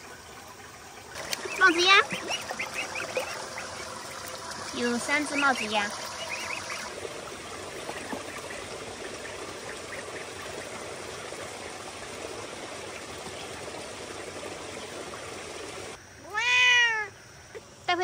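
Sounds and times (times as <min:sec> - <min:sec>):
stream trickling over rocks: 0:00.0 - 0:16.0.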